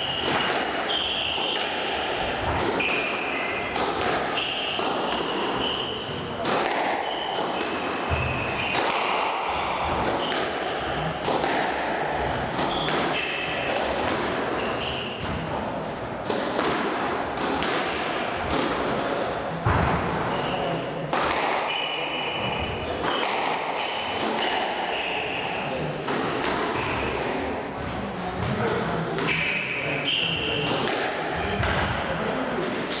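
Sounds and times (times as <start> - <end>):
squash ball hitting rackets and walls: 0.0 - 33.0.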